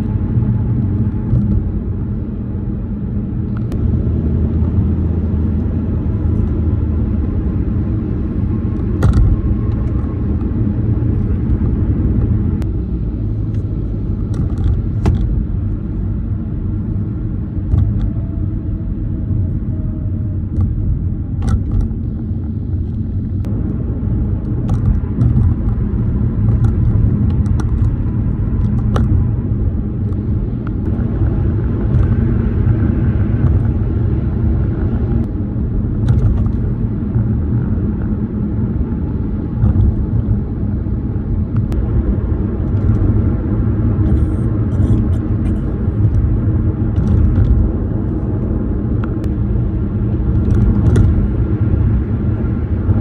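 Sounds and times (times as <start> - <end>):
tyre and road rumble: 0.0 - 53.0.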